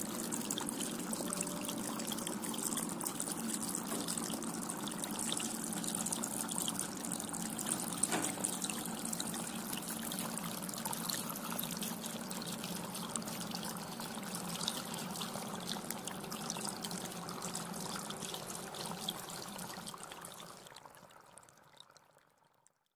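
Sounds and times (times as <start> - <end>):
water trickling from fountain: 0.0 - 22.9.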